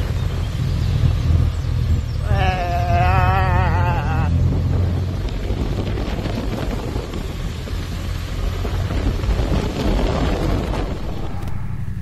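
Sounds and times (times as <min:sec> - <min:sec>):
motorcycle road and engine noise: 0:00.0 - 0:12.0
wind rushing over microphone: 0:00.0 - 0:12.0.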